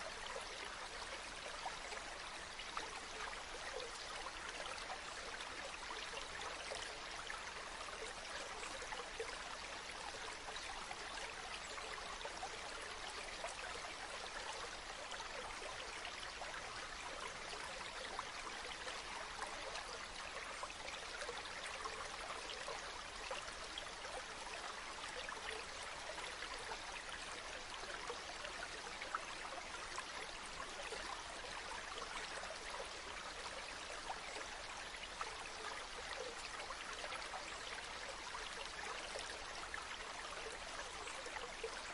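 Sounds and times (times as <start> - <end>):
stream babbling: 0.0 - 41.9.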